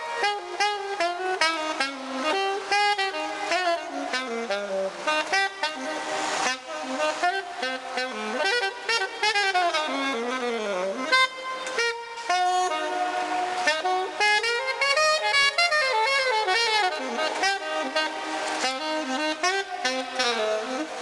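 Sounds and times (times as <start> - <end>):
solo saxophone melody: 0.0 - 21.0.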